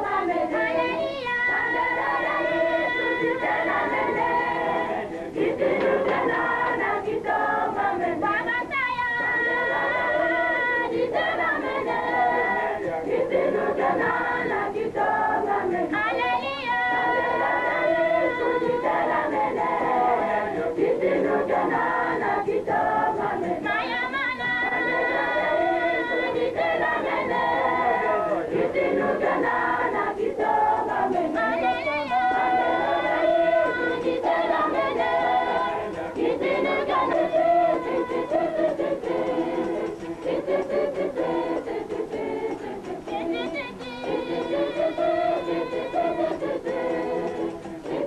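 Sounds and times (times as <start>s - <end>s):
choir singing a hymn: 0.0s - 48.0s.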